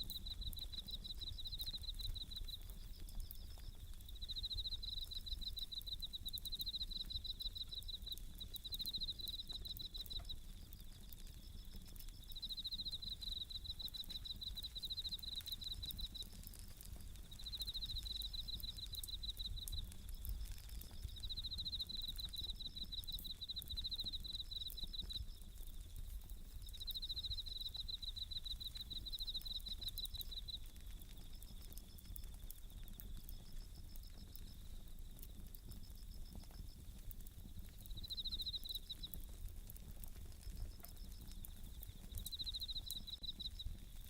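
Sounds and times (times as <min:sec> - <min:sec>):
campfire crackling: 0:00.0 - 0:44.0
crickets chirping: 0:00.0 - 0:44.0.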